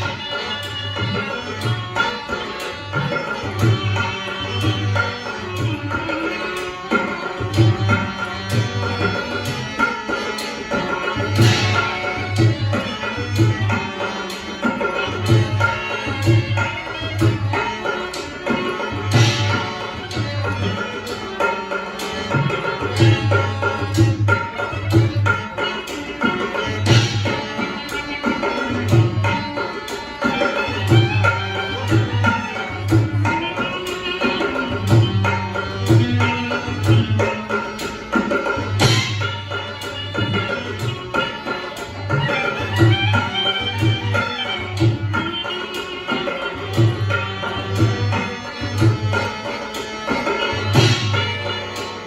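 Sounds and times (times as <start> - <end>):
hand drum beating: 0.0 - 52.0.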